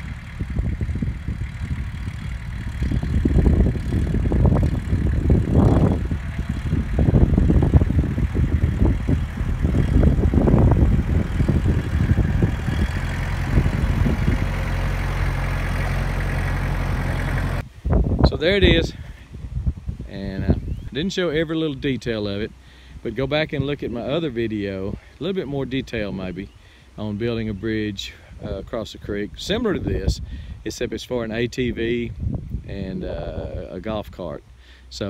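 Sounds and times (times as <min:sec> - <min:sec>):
tractor engine running: 0:00.0 - 0:30.6.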